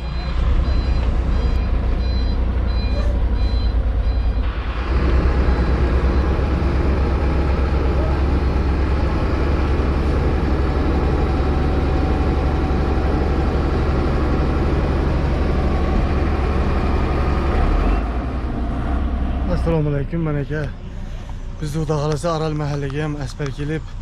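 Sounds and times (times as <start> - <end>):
diesel engines rumbling: 0.0 - 24.0.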